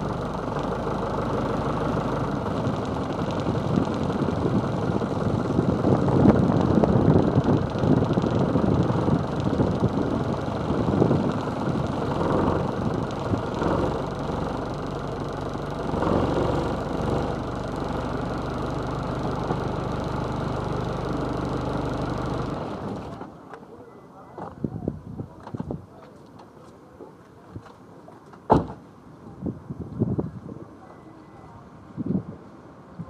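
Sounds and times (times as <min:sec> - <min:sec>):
low engine hum: 0:00.0 - 0:33.0
wind and road noise: 0:00.0 - 0:33.0.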